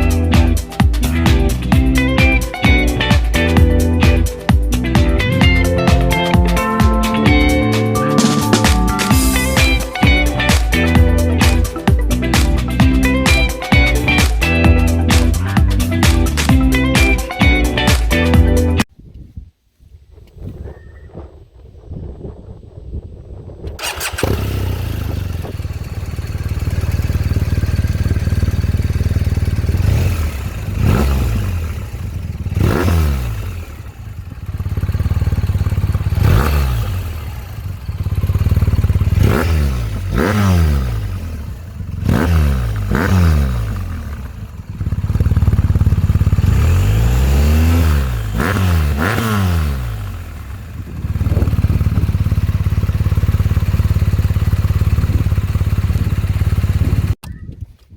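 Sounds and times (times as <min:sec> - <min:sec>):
motorcycle engine idling and revving: 0:00.0 - 0:18.9, 0:22.0 - 0:57.9.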